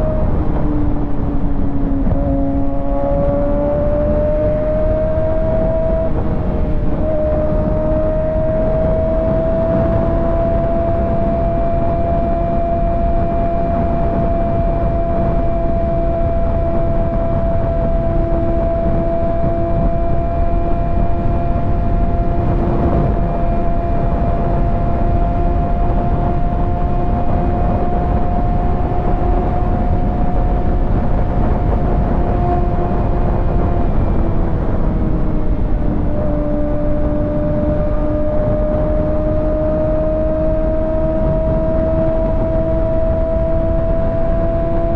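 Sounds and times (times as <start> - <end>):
heavy wind noise: 0.0 - 44.9
motorcycle engine cruising: 0.0 - 44.9.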